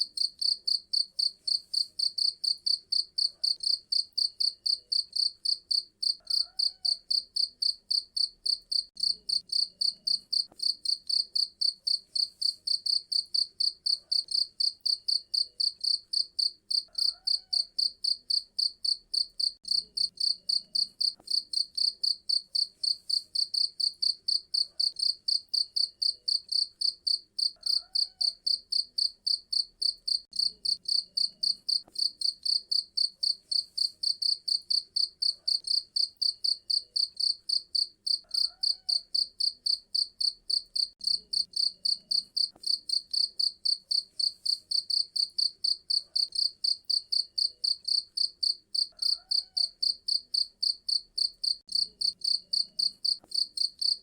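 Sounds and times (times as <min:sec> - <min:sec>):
cricket chirping: 0:00.1 - 0:54.0.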